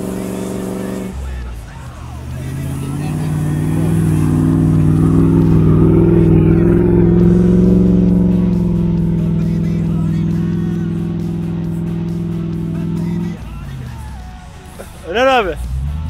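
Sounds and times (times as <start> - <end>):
car engine pulling hard: 0.0 - 16.0.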